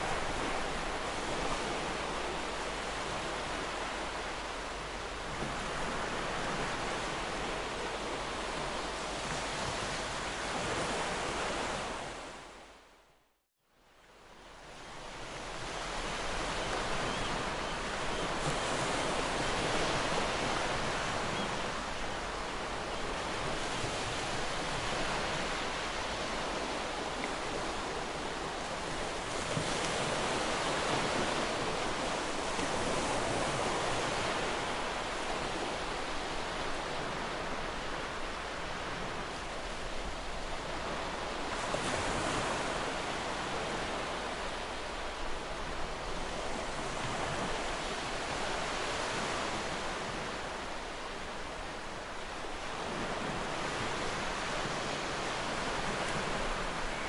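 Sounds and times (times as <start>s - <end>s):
ocean waves: 0.0s - 13.1s, 14.0s - 57.0s.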